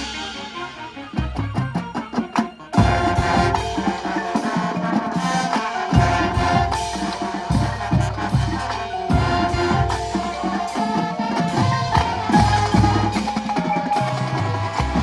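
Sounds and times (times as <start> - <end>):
marching band playing: 0.0 - 15.0
sharp percussion strokes: 0.0 - 15.0.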